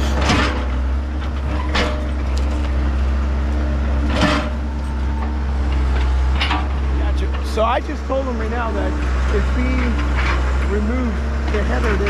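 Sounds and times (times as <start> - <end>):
heavy machine engine running: 0.0 - 12.0.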